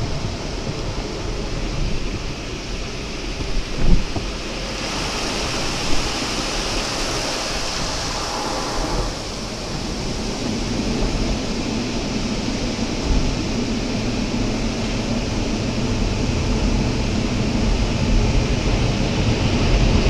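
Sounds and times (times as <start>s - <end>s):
water spraying hiss: 0.0s - 20.0s.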